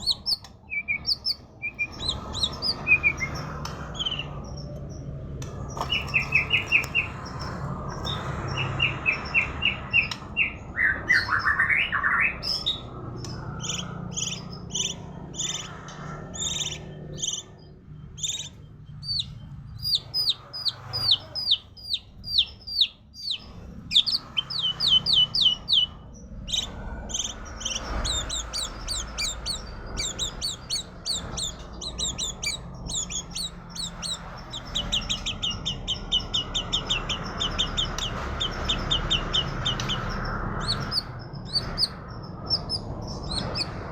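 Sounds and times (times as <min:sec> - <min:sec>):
bird singing with trills and whistles: 0:00.0 - 0:43.9.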